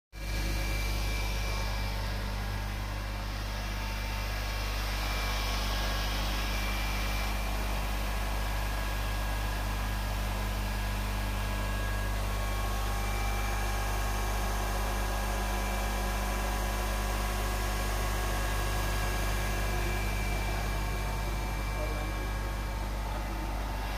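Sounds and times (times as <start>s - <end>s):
grinding machine motor humming: 0.2s - 23.9s.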